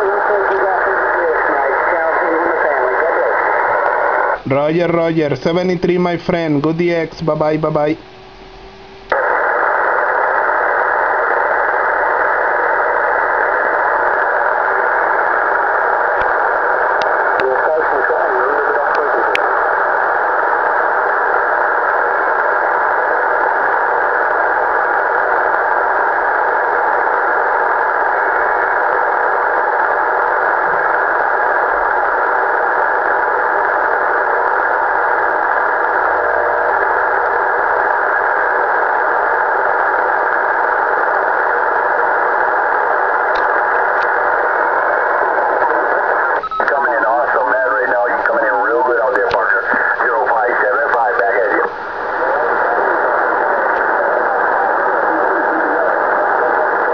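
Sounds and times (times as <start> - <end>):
radio static hiss: 0.0 - 56.9.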